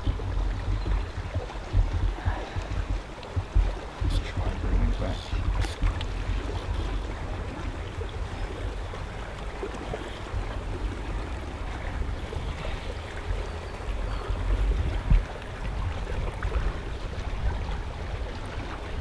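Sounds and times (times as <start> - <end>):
water lapping: 0.0 - 19.0
wind buffeting microphone: 0.0 - 19.0.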